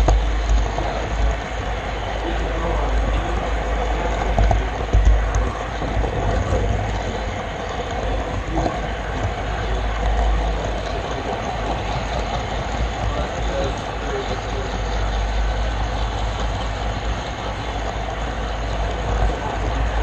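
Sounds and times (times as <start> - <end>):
model train wheels rattling: 0.0 - 20.0.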